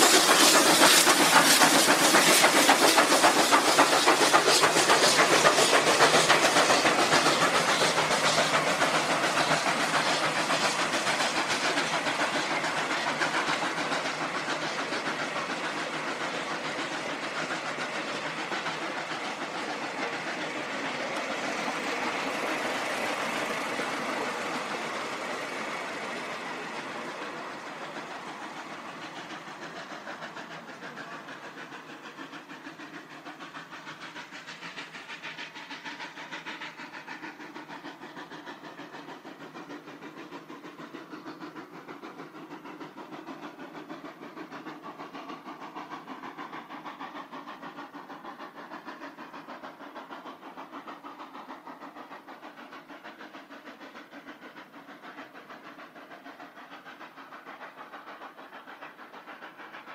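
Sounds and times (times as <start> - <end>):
steam locomotive chuffing: 0.0 - 59.9
train wheels rolling past: 0.0 - 59.9.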